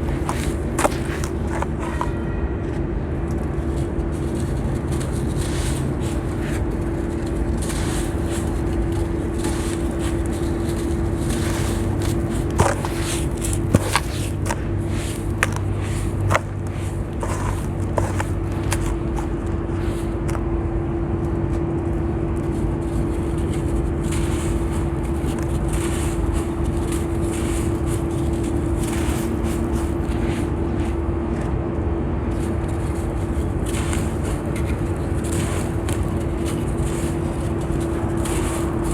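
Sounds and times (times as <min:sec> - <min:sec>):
sand block crumbling and scraping: 0:00.0 - 0:02.8, 0:03.5 - 0:20.4, 0:22.4 - 0:31.0, 0:32.3 - 0:38.9
steady low hum: 0:00.0 - 0:38.9.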